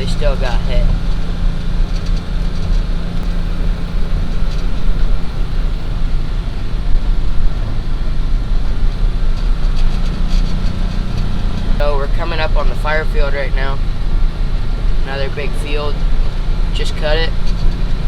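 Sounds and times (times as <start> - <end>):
rush of travel noise: 0.0 - 18.0
vehicle engine humming: 0.0 - 18.0.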